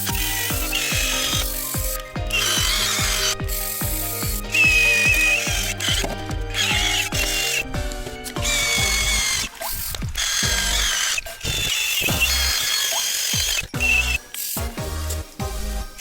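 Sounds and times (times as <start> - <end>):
wire brush squealing on metal: 0.0 - 7.7, 8.4 - 14.7
electronic background music: 0.0 - 16.0.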